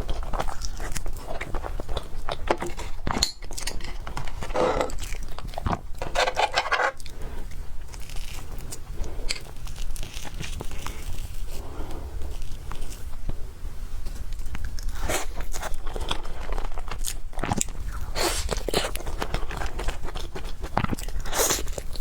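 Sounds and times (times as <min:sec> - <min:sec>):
biting and chewing: 0:00.0 - 0:13.3, 0:14.3 - 0:22.0.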